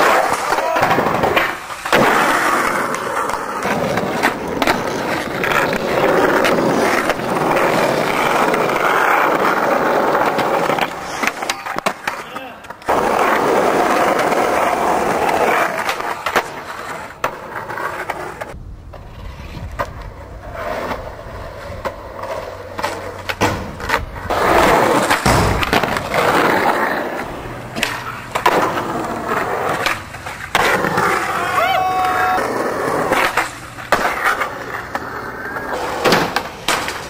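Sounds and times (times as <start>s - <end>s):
skateboard clacking on ground: 0.0s - 37.0s
skateboard wheels rolling on asphalt: 0.0s - 37.0s.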